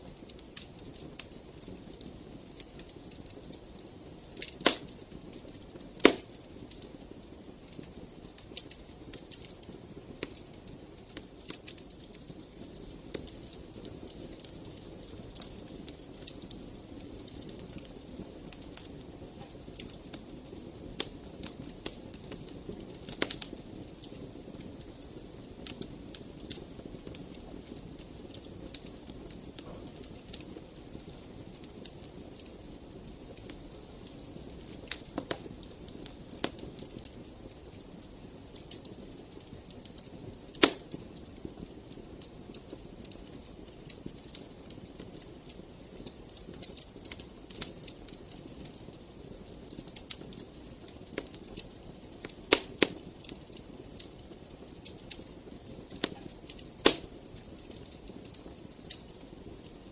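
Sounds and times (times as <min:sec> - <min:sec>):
flames hissing: 0:00.0 - 0:59.8
fire pops and snaps: 0:00.1 - 0:59.9.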